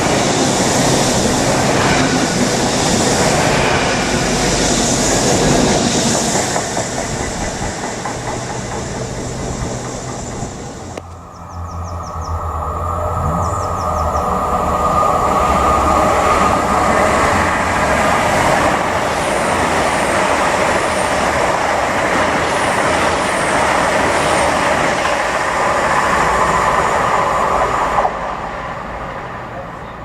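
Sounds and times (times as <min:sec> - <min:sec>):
train running past: 0:00.0 - 0:30.0.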